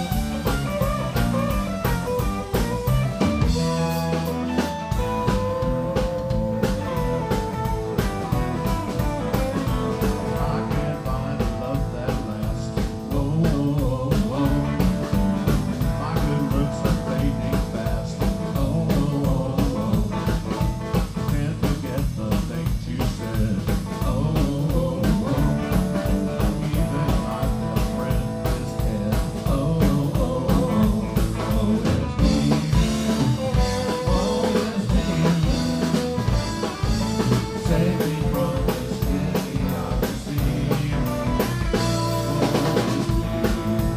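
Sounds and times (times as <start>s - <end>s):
bass guitar: 0.0s - 43.9s
drum kit beat: 0.0s - 43.9s
electric guitar: 0.0s - 43.9s.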